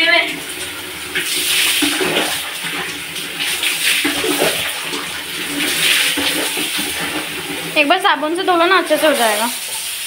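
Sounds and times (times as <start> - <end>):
tap water running and splashing: 0.0 - 10.0.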